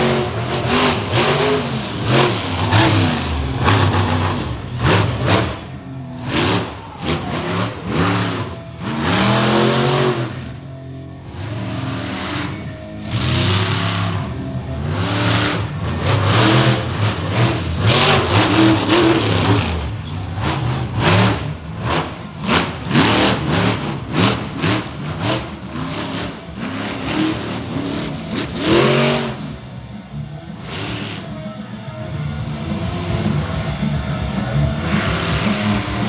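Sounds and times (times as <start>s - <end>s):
truck engine revving hard: 0.0s - 31.7s, 32.4s - 36.0s.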